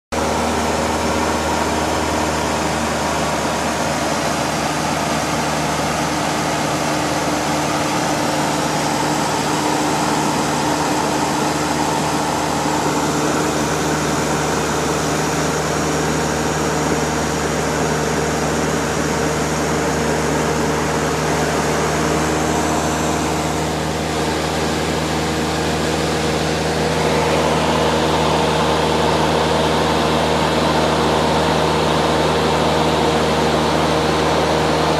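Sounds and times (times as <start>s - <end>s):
airplane engine droning: 0.1s - 34.9s
airflow noise: 0.2s - 34.9s.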